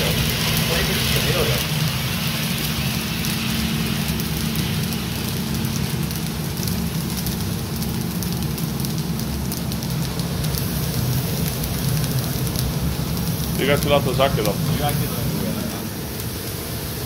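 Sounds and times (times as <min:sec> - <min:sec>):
coffee beans rattling: 0:00.0 - 0:16.6
motor and fan hum: 0:00.0 - 0:17.0.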